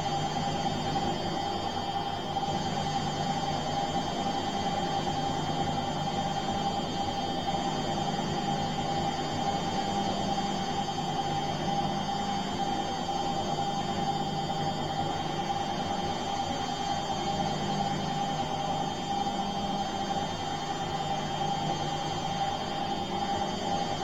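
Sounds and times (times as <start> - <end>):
washing machine running: 0.0 - 24.0.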